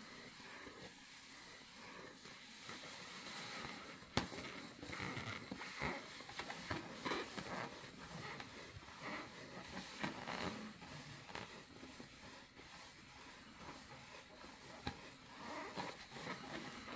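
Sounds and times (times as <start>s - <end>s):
claws scratching rubber balloon: 0.0s - 16.9s.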